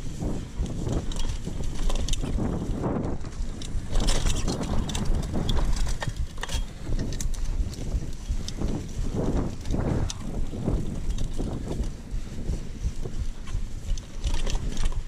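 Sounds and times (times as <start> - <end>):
bike chain and frame rattling: 0.0 - 15.0
bike tyres rumbling on dirt: 0.0 - 15.0
wind buffeting microphone: 0.0 - 15.0.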